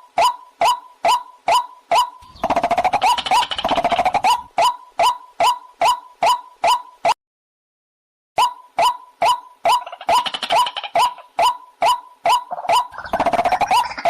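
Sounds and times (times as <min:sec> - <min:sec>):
recorded bird calls: 0:00.0 - 0:07.1, 0:08.4 - 0:14.0.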